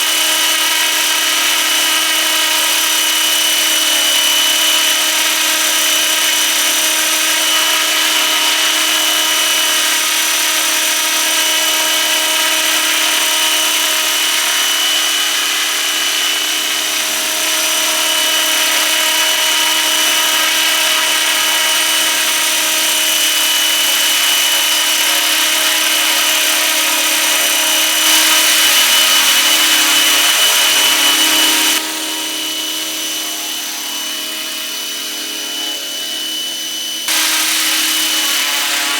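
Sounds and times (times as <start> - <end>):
model helicopter whine: 0.0 - 38.9.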